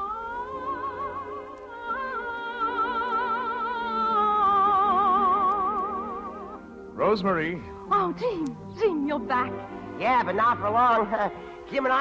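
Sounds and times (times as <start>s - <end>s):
slow melody with vibrato: 0.0s - 12.0s.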